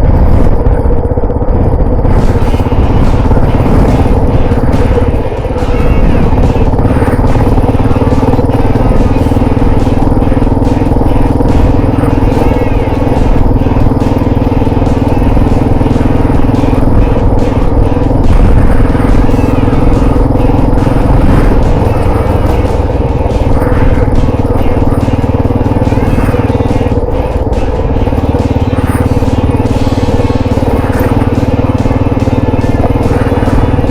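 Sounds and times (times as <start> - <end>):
low wind rumble: 0.0 - 33.9
motorcycle engine running: 0.0 - 33.9.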